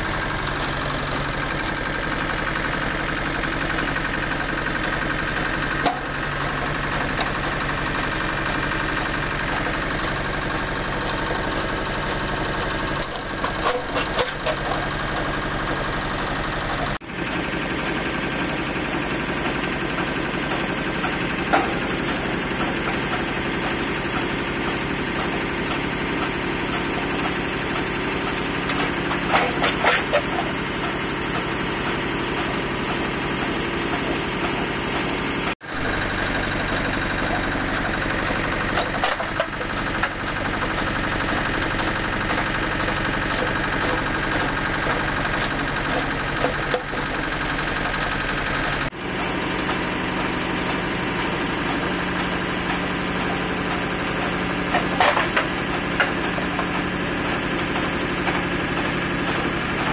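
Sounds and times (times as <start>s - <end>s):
chaff cutter running: 0.0s - 59.9s.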